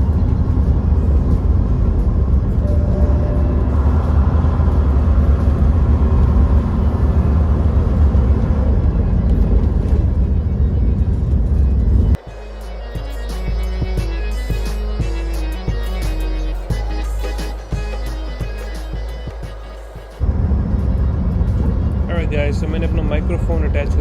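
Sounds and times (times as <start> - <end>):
truck driving on road: 0.0 - 24.0.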